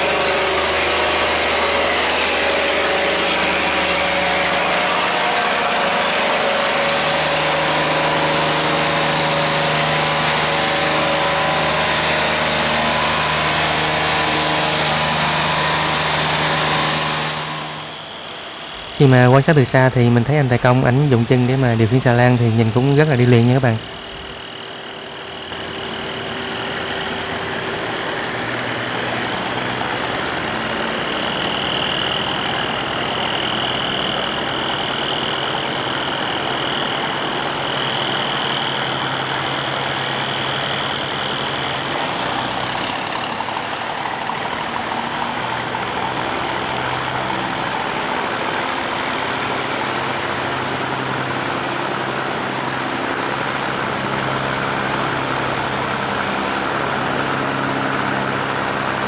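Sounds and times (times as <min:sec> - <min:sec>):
barge engine running: 0:00.0 - 0:59.0
high whine: 0:00.0 - 0:59.0.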